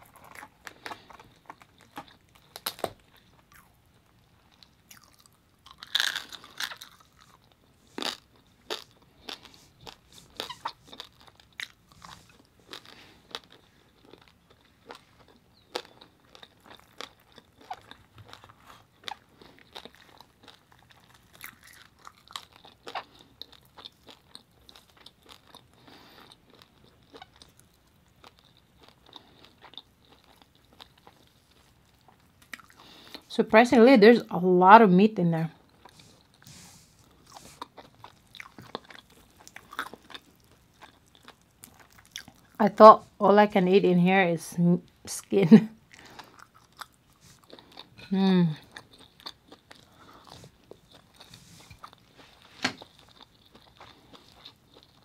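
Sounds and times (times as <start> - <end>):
crunching and chewing: 0.0 - 33.3, 35.5 - 42.6, 45.8 - 55.0.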